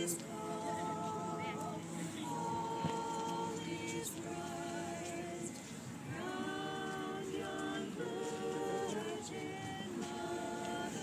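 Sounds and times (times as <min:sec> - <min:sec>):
carolers singing a cappella: 0:00.0 - 0:11.0.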